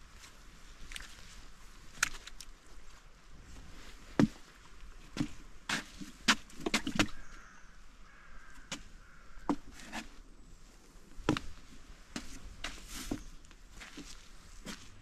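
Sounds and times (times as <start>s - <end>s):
footsteps crunching on a trail: 0.0s - 15.0s.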